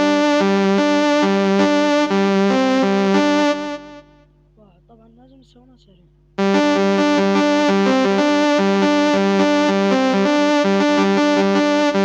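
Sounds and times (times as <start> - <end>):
electronic keyboard fast melody: 0.0 - 4.1, 6.4 - 12.0.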